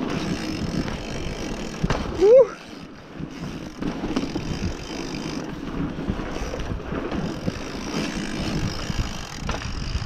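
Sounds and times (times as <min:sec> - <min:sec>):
bike rattling over bumps: 0:00.0 - 0:10.0
bike tyres rolling on dirt: 0:00.0 - 0:10.0
wind buffeting microphone: 0:00.0 - 0:10.0.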